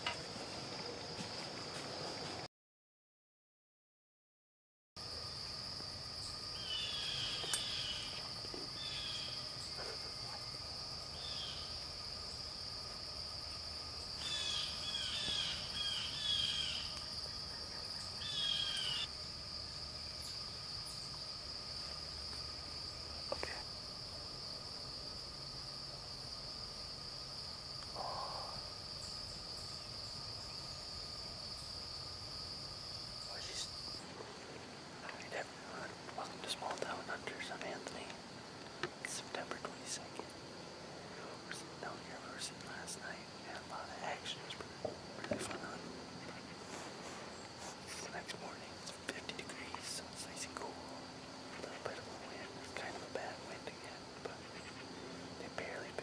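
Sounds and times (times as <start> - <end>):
crickets shrilling: 5.0 - 56.0.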